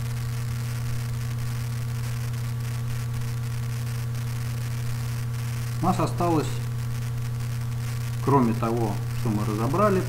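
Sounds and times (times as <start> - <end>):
low electrical hum: 0.0 - 10.0
microphone hiss and crackle: 0.0 - 10.0.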